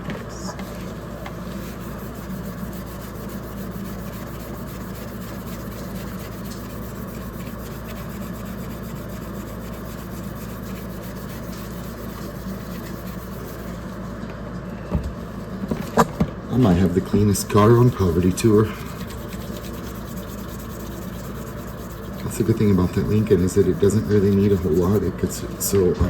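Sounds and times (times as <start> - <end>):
steel wool scrubbing: 1.5 - 13.9, 16.8 - 25.8.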